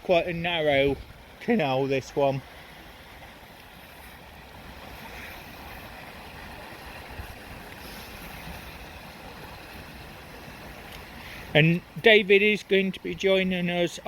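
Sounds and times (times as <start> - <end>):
wind rumbling on microphone: 0.0 - 1.6, 2.2 - 12.0.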